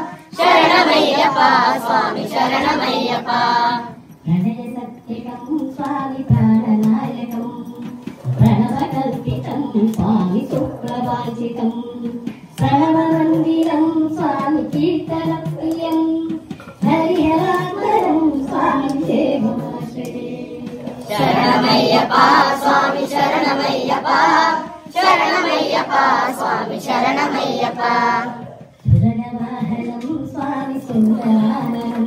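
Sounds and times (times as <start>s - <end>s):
leading voice singing: 0.0s - 15.5s, 16.8s - 32.0s
group singing devotional song: 0.0s - 32.0s.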